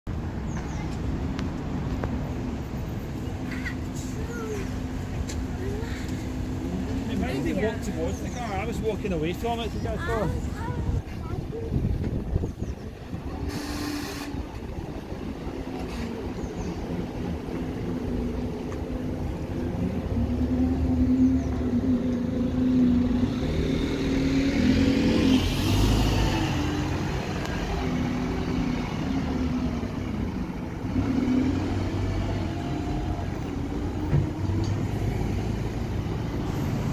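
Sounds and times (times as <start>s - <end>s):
bus engine driving past: 0.2s - 36.9s.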